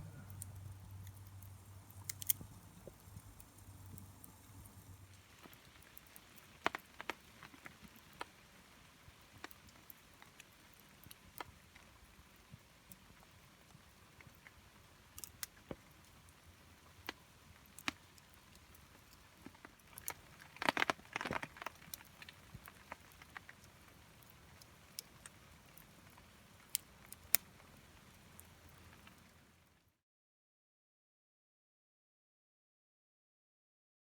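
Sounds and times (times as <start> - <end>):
campfire crackling: 0.0 - 29.9
faint hiss: 0.0 - 29.9.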